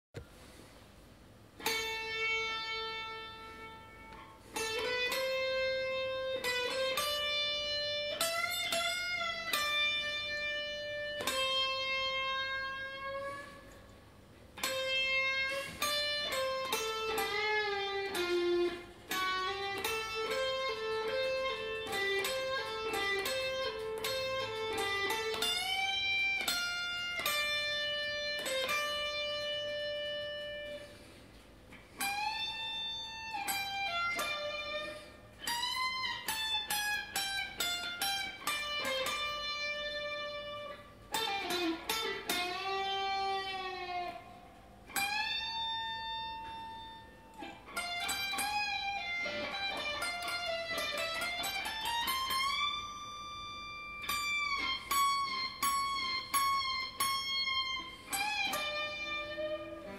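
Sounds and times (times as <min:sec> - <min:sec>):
electric guitar slow melody: 0:01.3 - 0:59.9.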